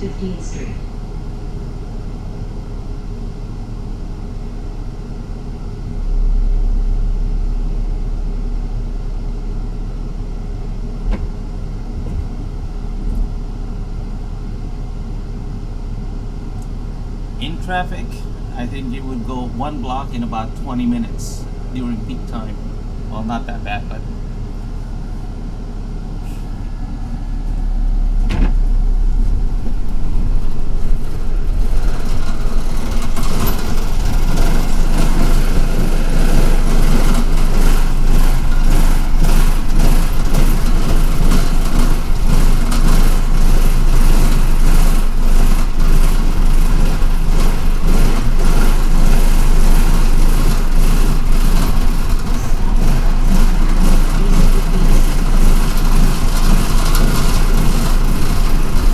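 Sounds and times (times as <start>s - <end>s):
bus engine rumble: 0.0s - 58.9s
road noise: 0.0s - 58.9s.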